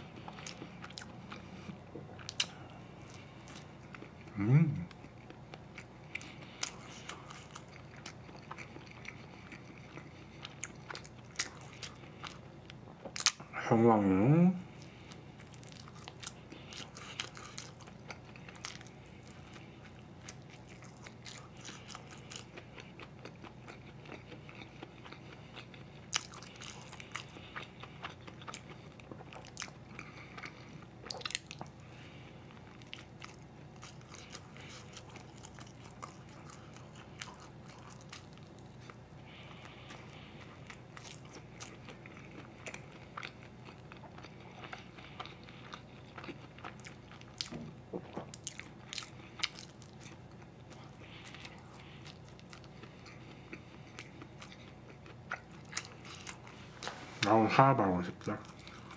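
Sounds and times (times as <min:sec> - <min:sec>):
person chewing: 0:00.0 - 0:13.5, 0:14.7 - 0:57.4, 0:58.2 - 0:58.9
low steady hum: 0:00.0 - 0:58.9.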